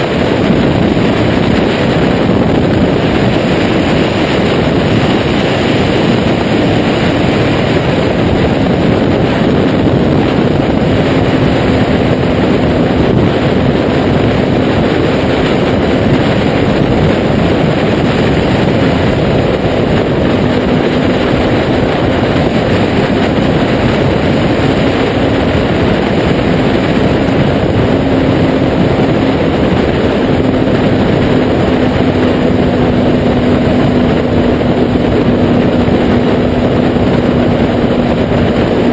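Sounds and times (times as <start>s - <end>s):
motorcycle engine running: 0.0s - 38.9s
wind rush noise: 0.0s - 38.9s.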